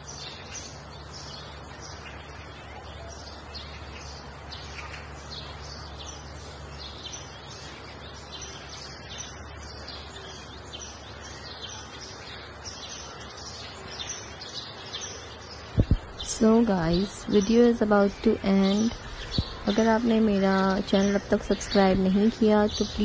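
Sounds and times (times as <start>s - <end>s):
outdoor background noise: 0.0s - 23.0s
small birds chirping: 0.0s - 23.0s.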